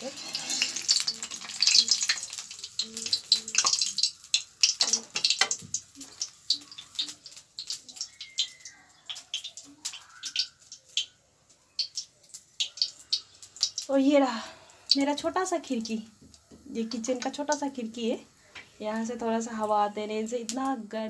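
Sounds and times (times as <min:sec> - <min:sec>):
hot oil crackling and spitting: 0:00.0 - 0:20.9.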